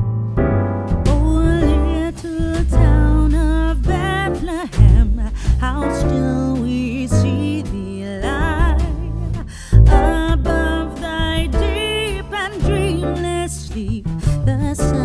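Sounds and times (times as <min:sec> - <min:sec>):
guitar: 0:00.0 - 0:15.0
steady bass: 0:00.0 - 0:15.0
person singing: 0:01.1 - 0:15.0.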